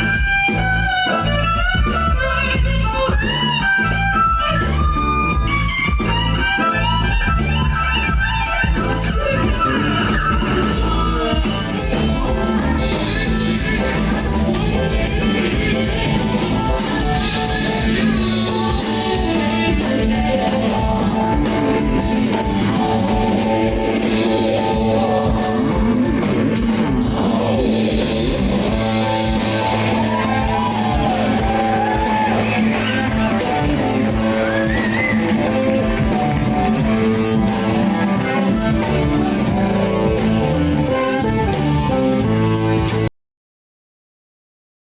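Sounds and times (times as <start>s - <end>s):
live rock band playing: 0.0s - 43.1s
melodic line sung or guitar: 6.5s - 42.6s.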